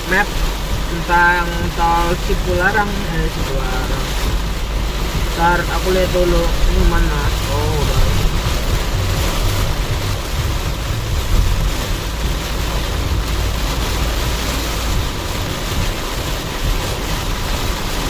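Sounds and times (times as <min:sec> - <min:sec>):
road rumble in car cabin: 0:00.0 - 0:18.0
tyres hissing on wet road: 0:00.0 - 0:18.0.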